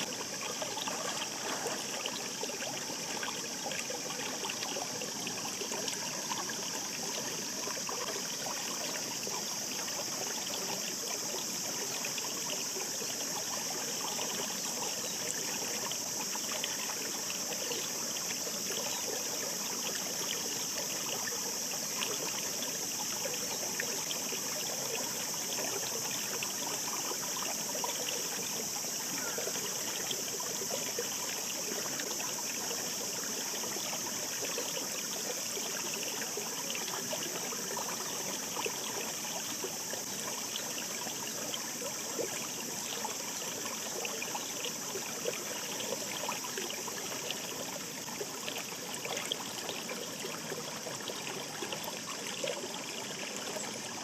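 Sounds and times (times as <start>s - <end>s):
mountain stream babbling: 0.0s - 54.0s.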